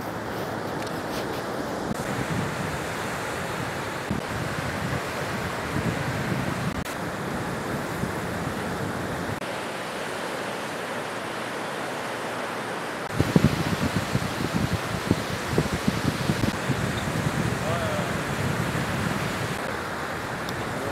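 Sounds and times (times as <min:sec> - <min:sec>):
surf washing onto beach: 0:00.0 - 0:20.9
wind: 0:00.0 - 0:20.9.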